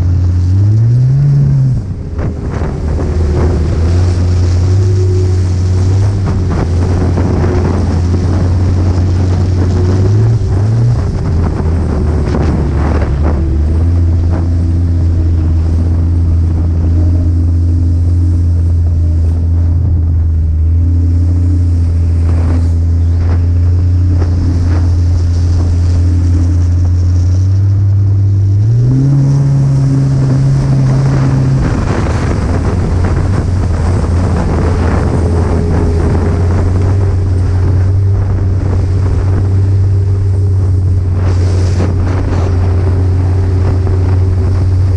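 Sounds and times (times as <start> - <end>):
snowmobile engine running: 0.0 - 44.9
wind buffeting microphone: 0.0 - 44.9.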